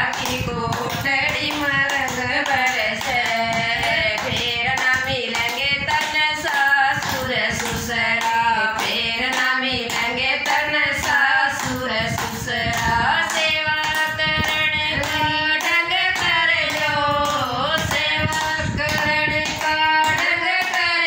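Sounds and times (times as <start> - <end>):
hands clapping on a beat: 0.0 - 21.0
women singing folk song: 0.0 - 21.0.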